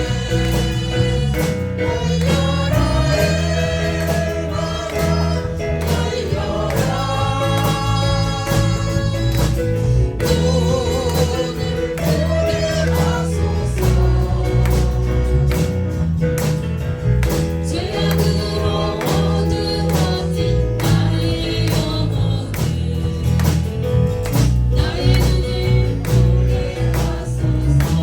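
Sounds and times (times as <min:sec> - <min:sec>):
song with singing and band: 0:00.0 - 0:28.0.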